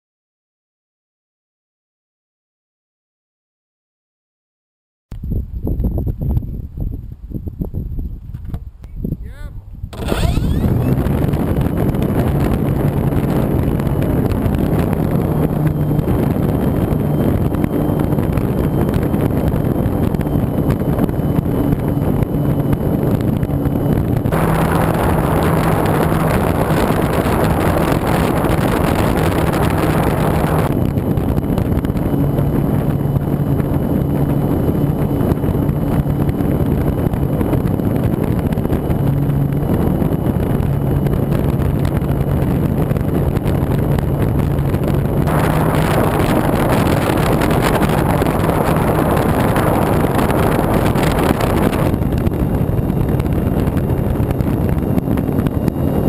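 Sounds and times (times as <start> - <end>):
wind rushing over camera: 5.1 - 56.0
propeller plane motor humming: 5.3 - 56.0.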